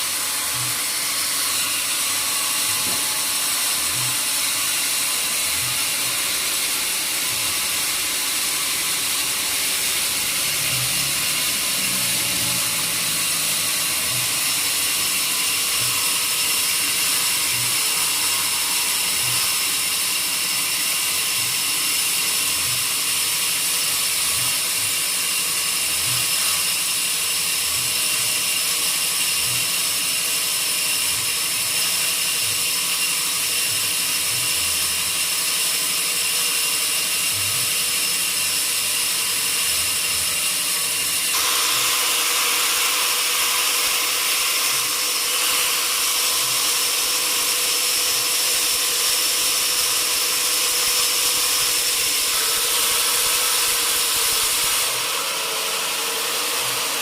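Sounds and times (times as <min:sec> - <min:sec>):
sawmill machinery whine: 0:00.0 - 0:57.0.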